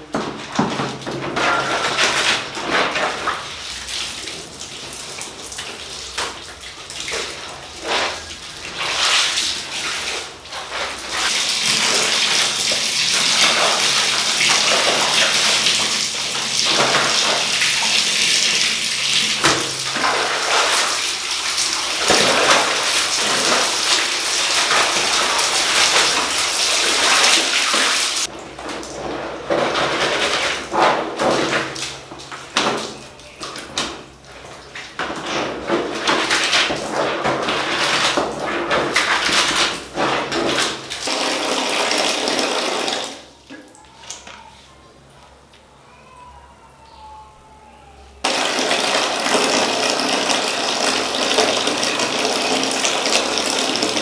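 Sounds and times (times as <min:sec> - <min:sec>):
tap running into tub: 0:00.0 - 0:44.5, 0:48.2 - 0:54.0
water splashing and sloshing: 0:00.0 - 0:44.6, 0:48.2 - 0:54.0.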